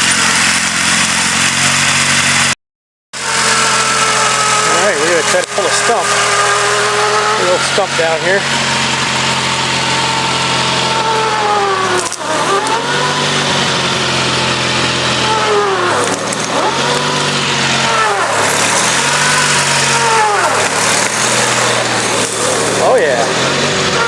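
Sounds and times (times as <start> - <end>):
tractor engine running hard: 0.0 - 2.6, 3.2 - 24.0
whine under load: 3.2 - 24.0.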